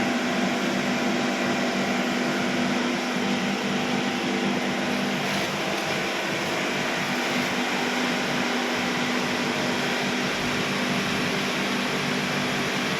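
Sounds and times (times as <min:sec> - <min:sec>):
kiln burners roaring: 0:00.0 - 0:12.9
low hum of burners and blowers: 0:00.0 - 0:12.9.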